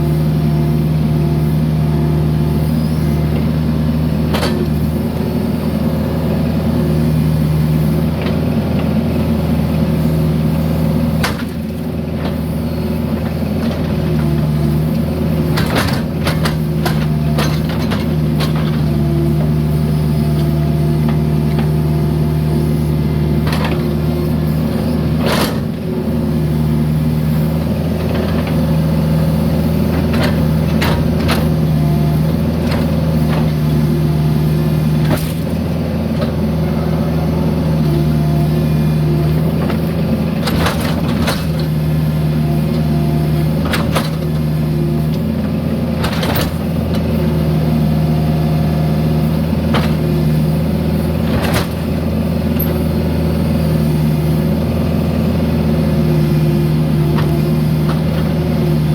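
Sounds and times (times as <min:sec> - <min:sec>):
diesel excavator engine running: 0:00.0 - 0:58.9.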